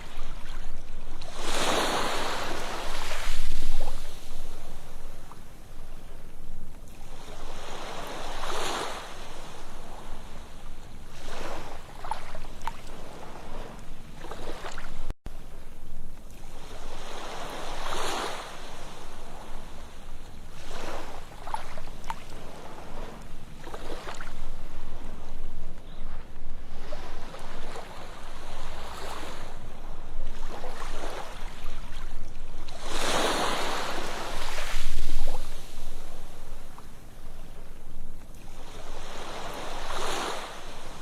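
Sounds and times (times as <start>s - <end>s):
ocean waves breaking on a beach: 0.0s - 41.0s.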